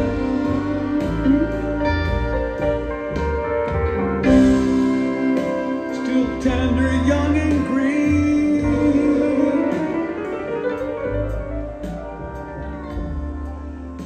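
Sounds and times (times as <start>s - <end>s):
rock band with strings and horns: 0.0s - 14.0s.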